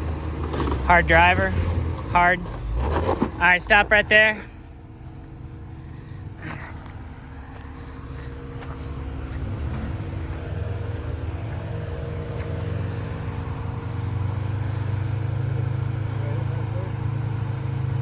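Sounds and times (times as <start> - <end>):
pickup engine running at low revs: 0.0 - 18.0.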